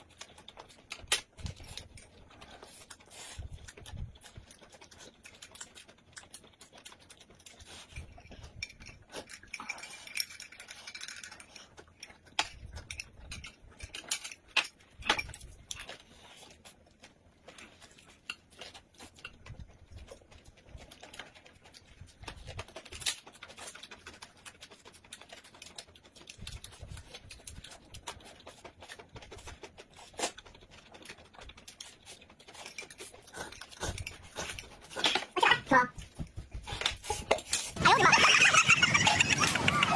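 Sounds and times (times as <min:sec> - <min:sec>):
person chewing: 0:00.0 - 0:35.4.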